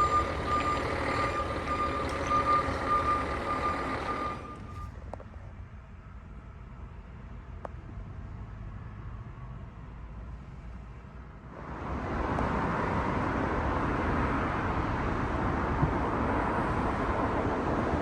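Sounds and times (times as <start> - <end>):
road vehicle rumble: 0.0 - 18.0.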